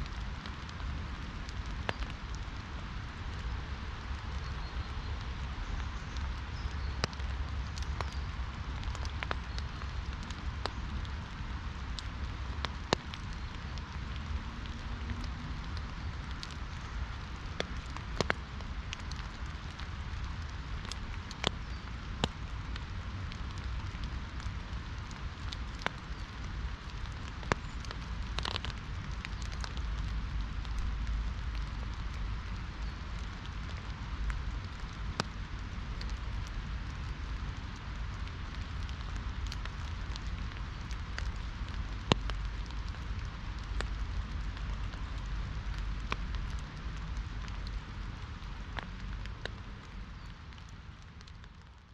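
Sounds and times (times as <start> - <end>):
raindrops tapping close by: 0.0 - 51.9
steady rain: 0.0 - 51.9.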